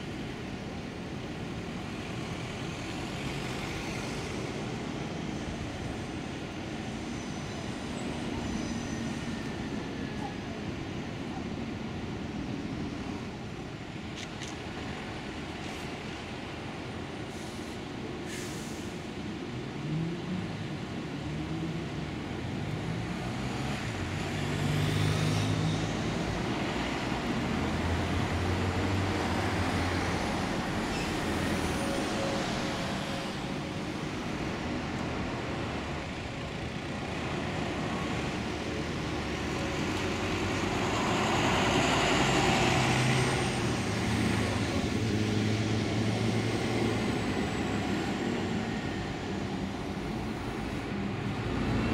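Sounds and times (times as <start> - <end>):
bus engines pulling away: 0.0 - 51.9
road traffic: 0.0 - 51.9.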